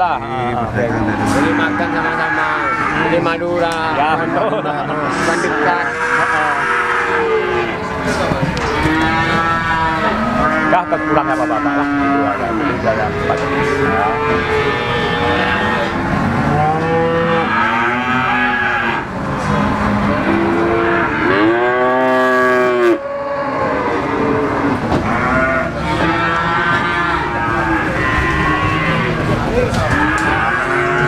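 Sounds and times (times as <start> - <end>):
cattle mooing: 0.0 - 31.0
steady background noise: 0.0 - 31.0.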